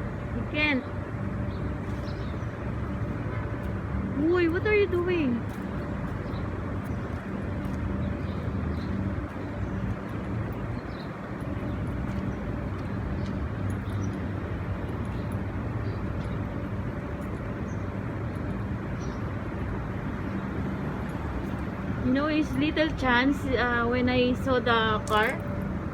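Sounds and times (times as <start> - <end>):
road and traffic noise: 0.0 - 25.9
vehicle engine hum: 0.0 - 25.9.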